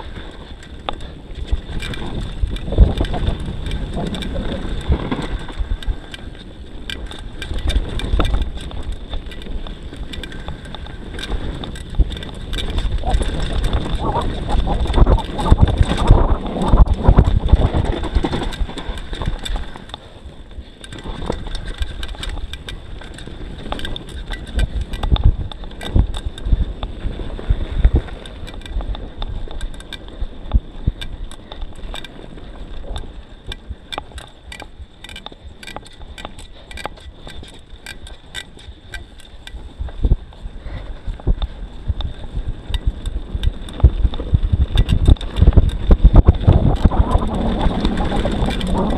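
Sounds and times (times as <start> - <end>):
bike clicks and rattles: 0.0 - 48.9
bike tyre rumble on dirt: 0.0 - 48.9
wind buffeting microphone: 0.0 - 48.9.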